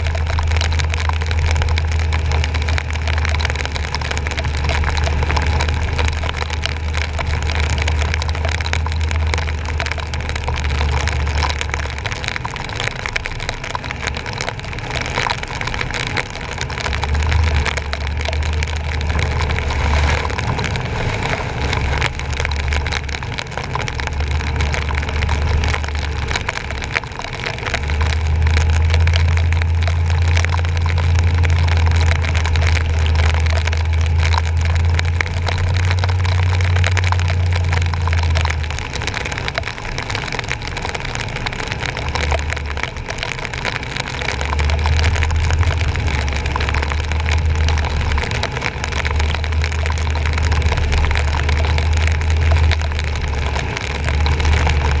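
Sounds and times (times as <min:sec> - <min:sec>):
truck low rumble: 0:00.0 - 0:55.0
water hiss from wet road: 0:00.0 - 0:55.0.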